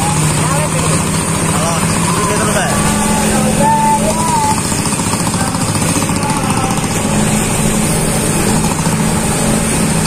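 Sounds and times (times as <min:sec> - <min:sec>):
motorcycle engine chugging: 0:00.0 - 0:10.0.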